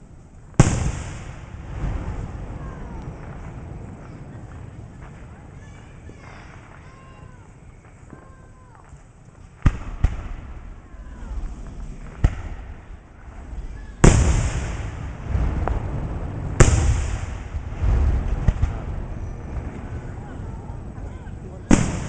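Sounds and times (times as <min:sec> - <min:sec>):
echoing rumble: 0:00.0 - 0:22.0
fireworks bangs: 0:00.0 - 0:22.0.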